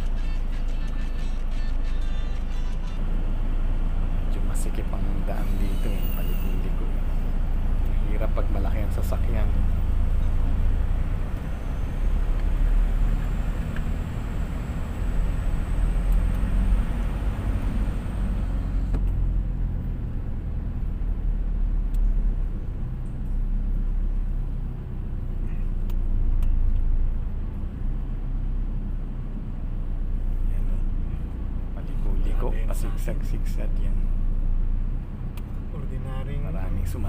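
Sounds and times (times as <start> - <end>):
car engine and tyres rumbling: 0.0 - 37.0.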